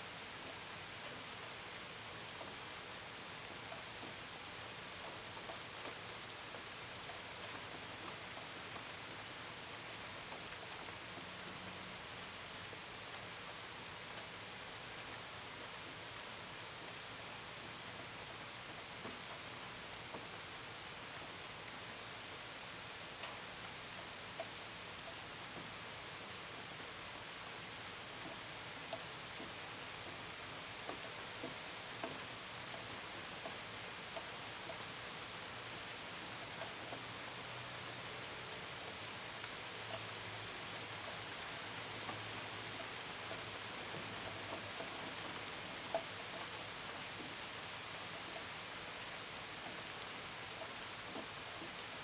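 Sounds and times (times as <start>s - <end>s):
gentle rain pattering: 0.0s - 52.0s.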